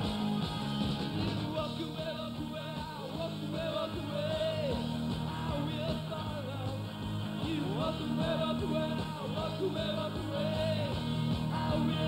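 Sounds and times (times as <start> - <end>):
drum beat: 0.0 - 12.0
rock band playing live: 0.0 - 12.0
man singing lead vocal: 1.3 - 12.0.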